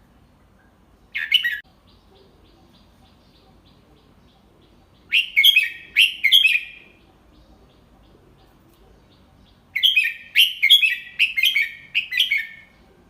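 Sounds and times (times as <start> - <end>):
bird song phrases: 0.0 - 13.0.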